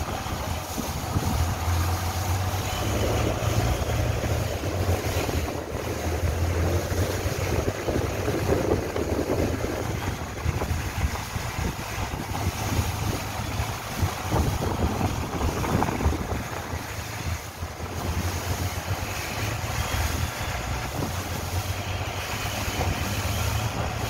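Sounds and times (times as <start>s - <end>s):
boat engine droning: 0.0s - 24.0s
water rushing along hull: 0.0s - 24.0s
wind noise on microphone: 0.0s - 24.0s.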